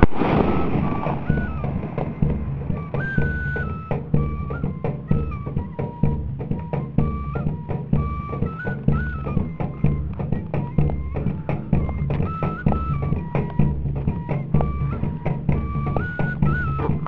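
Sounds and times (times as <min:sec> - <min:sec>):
steady drum beat: 0:00.0 - 0:17.0
wooden fife melody: 0:00.8 - 0:17.0.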